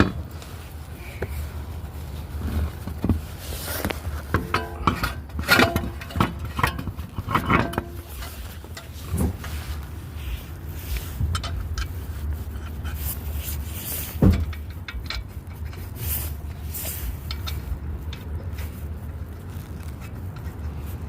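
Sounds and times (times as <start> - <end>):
steady low rumble: 0.0 - 21.0
tools scraping and clinking: 3.4 - 21.0.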